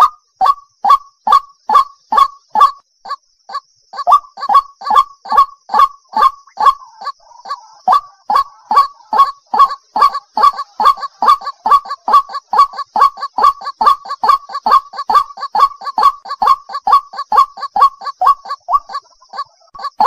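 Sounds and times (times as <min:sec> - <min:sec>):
waterhen calling: 0:00.0 - 0:03.2, 0:04.0 - 0:20.0.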